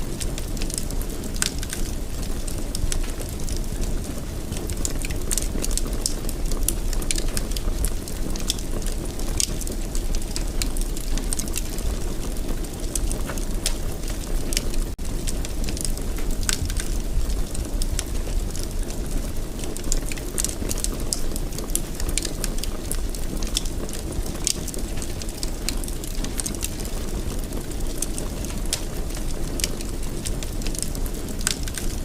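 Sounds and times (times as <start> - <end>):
low rumble of burning: 0.0 - 32.0
wood fire pops and crackles: 0.0 - 32.0.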